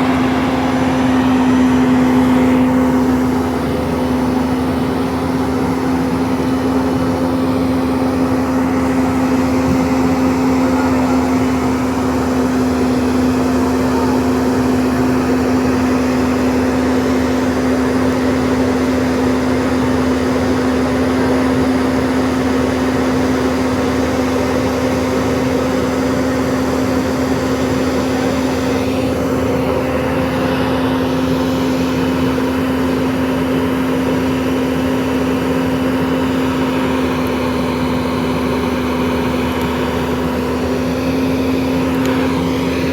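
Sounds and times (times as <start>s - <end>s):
excavator diesel engine droning: 0.0s - 42.9s.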